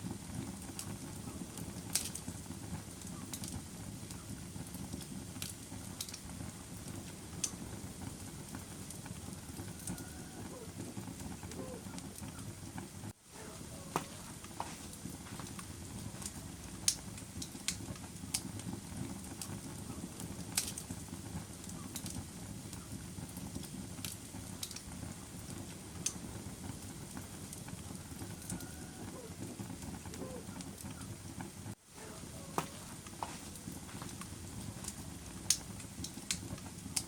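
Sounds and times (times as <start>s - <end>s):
fire flames rushing: 0.0s - 37.0s
fire pops and snaps: 0.0s - 37.0s.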